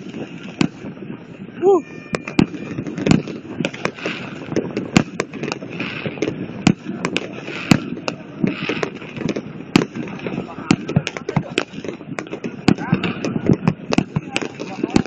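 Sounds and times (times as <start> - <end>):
fireworks banging: 0.0 - 15.0.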